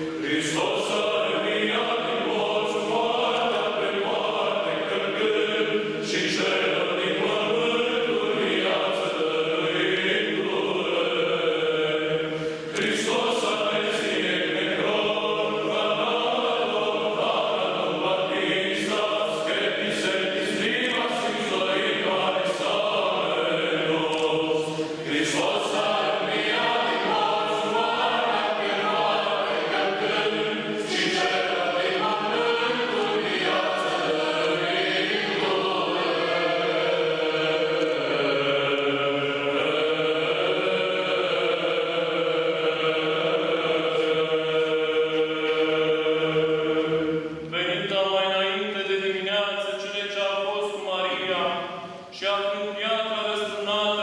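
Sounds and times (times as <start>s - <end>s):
choir chanting: 0.0s - 54.0s.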